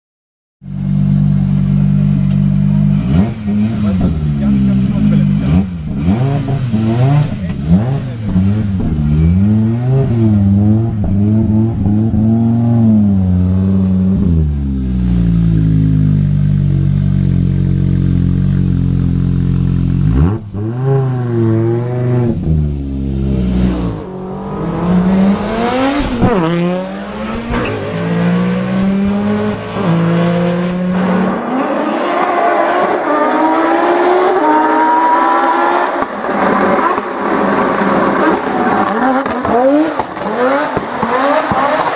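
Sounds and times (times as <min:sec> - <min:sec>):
car engine revving: 0:00.7 - 0:41.9
rally car accelerating hard: 0:01.0 - 0:17.2, 0:18.0 - 0:41.9.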